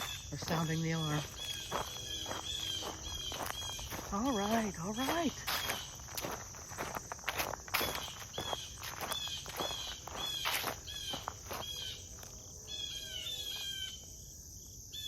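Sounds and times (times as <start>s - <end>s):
footsteps crunching: 0.0s - 12.6s
high insect drone: 0.0s - 15.0s.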